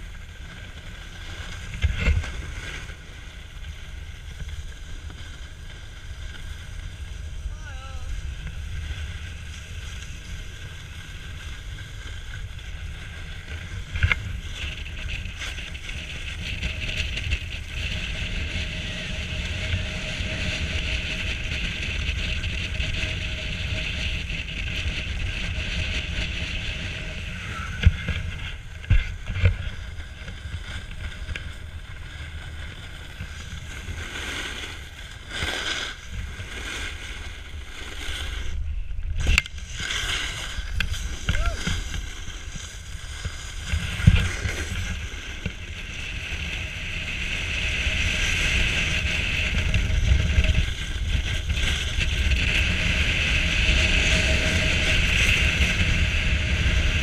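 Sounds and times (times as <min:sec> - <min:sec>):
snowboard scraping on snow: 0:00.0 - 0:57.0.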